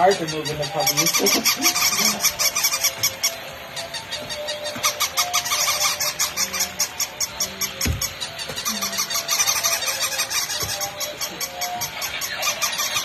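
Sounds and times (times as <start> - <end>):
electronic yips: 0.0 - 13.0.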